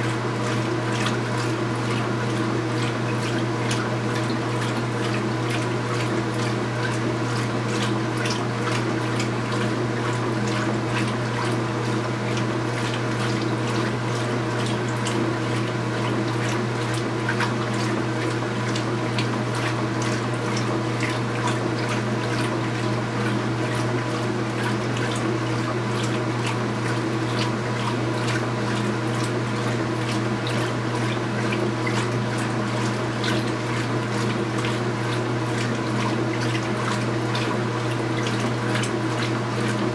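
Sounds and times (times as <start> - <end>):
washing machine motor hum: 0.0 - 39.9
water sloshing in tub: 0.0 - 39.9.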